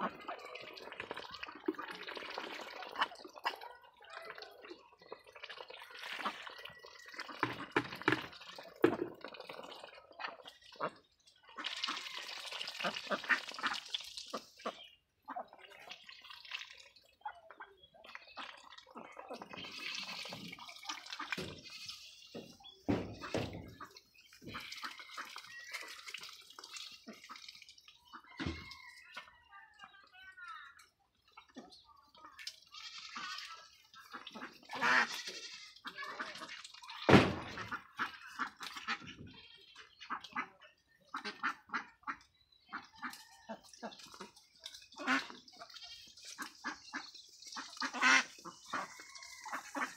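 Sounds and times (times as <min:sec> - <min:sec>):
ducks dabbling in watery mash: 0:00.0 - 0:49.9.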